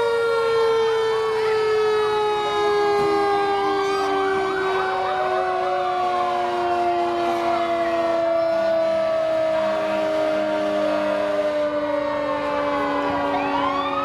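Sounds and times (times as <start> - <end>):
long falling siren tone: 0.0 - 14.0
sirens wailing: 0.0 - 14.0.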